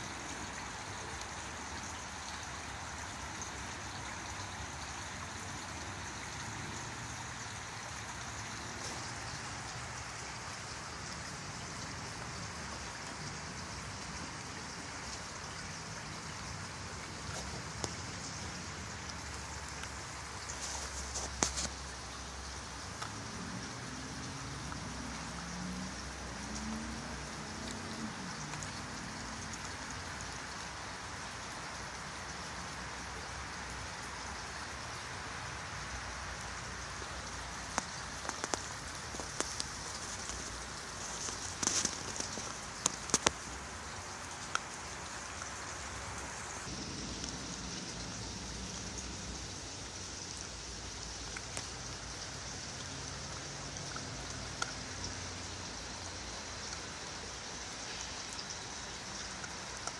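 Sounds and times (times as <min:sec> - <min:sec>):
rain-like hissing: 0:00.0 - 0:59.9.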